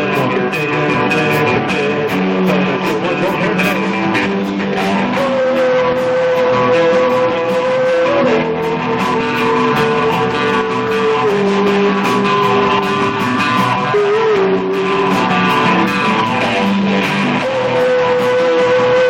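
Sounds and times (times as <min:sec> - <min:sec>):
lead guitar long notes: 0:00.0 - 0:19.0
rock band playing: 0:00.0 - 0:19.0.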